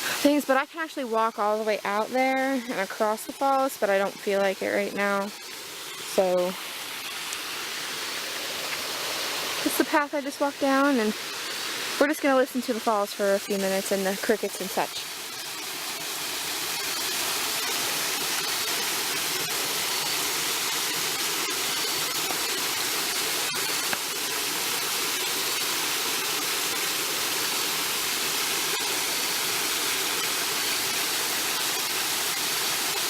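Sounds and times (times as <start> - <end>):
small waterfall splashing: 0.0 - 33.0.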